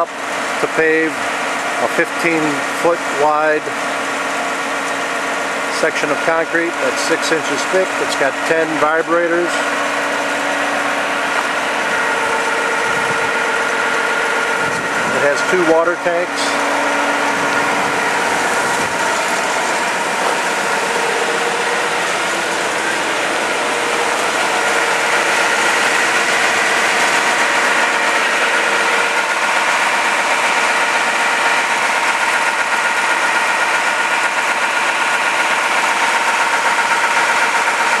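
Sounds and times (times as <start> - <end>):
diesel engine drone: 0.0 - 38.0.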